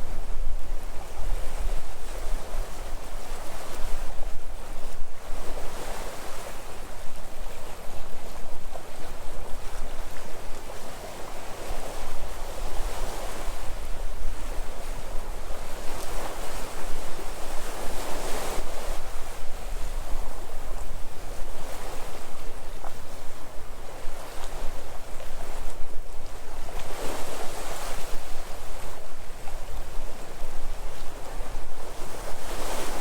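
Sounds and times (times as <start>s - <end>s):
sea waves washing ashore: 0.0s - 33.0s
wind rumbling on microphone: 0.0s - 33.0s.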